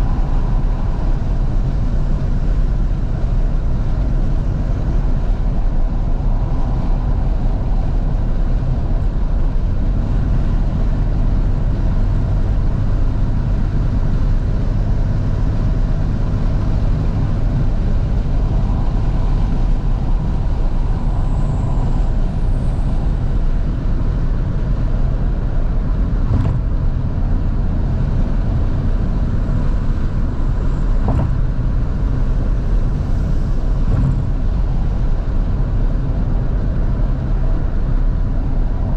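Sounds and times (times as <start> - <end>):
car engine driving: 0.0 - 38.9
tyre and wind noise: 0.0 - 38.9.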